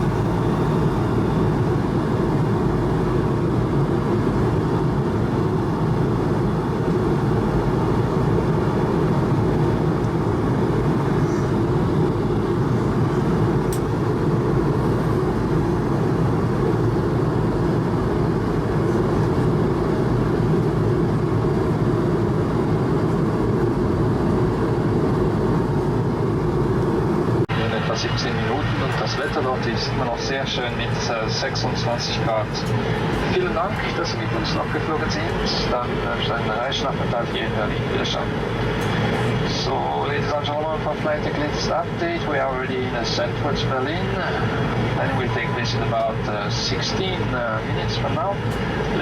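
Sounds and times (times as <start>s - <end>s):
air rushing along fuselage: 0.0s - 49.0s
jet engines humming: 0.0s - 49.0s.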